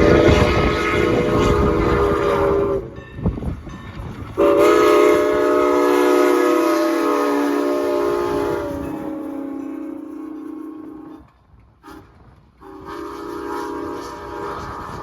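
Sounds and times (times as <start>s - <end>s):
chime steam whistle blast: 0.0s - 3.2s, 4.4s - 11.3s, 12.6s - 15.0s
wind buffeting microphone: 0.0s - 6.8s, 7.8s - 9.8s, 11.0s - 15.0s.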